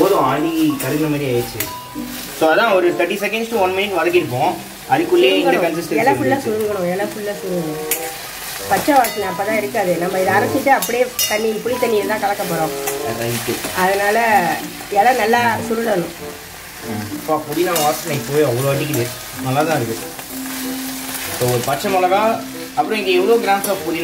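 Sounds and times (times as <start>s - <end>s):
leaves sizzling in hot oil: 0.0s - 24.0s
melody playing: 0.0s - 24.0s.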